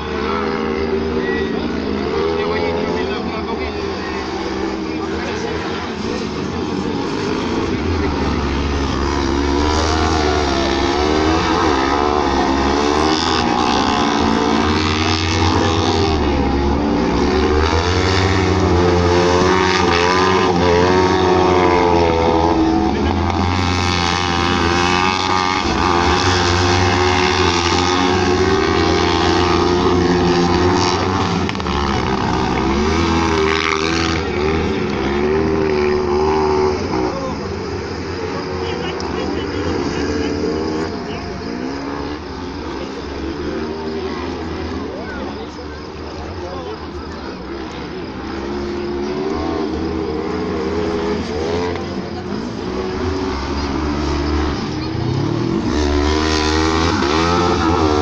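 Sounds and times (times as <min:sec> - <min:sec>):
racing buggy engines revving: 0:00.0 - 0:58.0.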